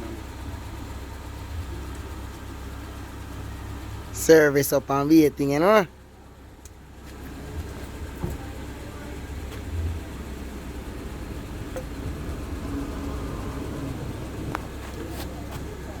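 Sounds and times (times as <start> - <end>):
motorcycle engine idling roughly: 0.0 - 16.0.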